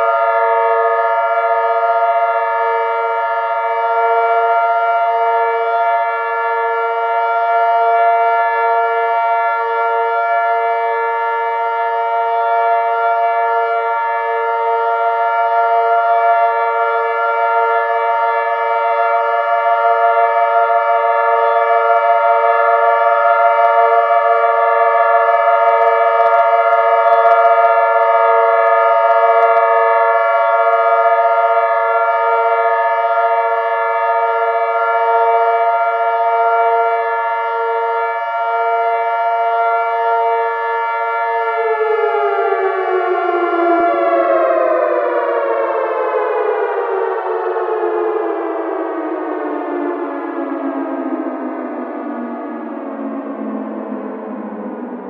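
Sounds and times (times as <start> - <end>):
warning sirens sounding: 0.0 - 55.0.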